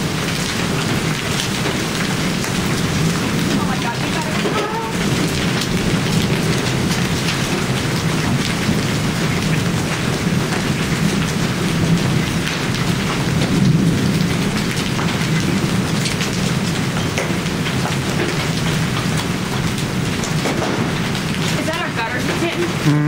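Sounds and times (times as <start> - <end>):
hailstones clattering: 0.0 - 22.9
rain pelting down: 0.0 - 23.0.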